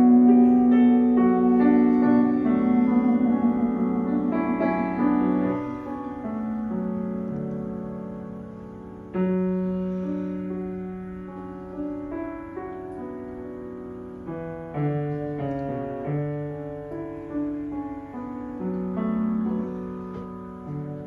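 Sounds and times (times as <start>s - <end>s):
slow piano ballad: 0.0s - 21.0s.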